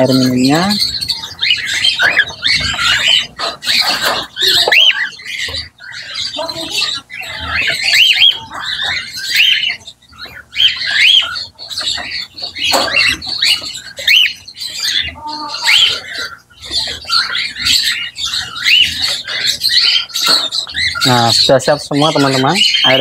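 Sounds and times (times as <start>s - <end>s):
cockatiels squawking: 0.0s - 23.0s.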